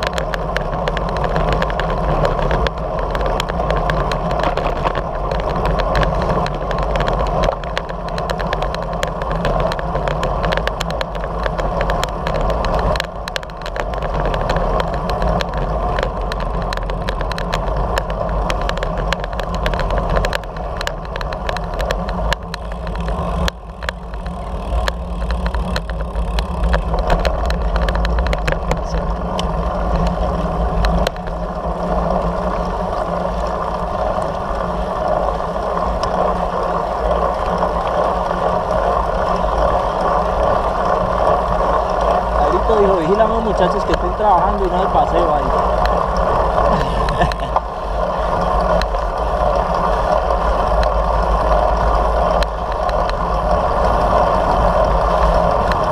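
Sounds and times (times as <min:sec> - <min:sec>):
tyre noise on asphalt: 0:00.0 - 0:55.9
wind buffeting crackles: 0:00.0 - 0:55.9
wind rush on microphone: 0:00.0 - 0:55.9.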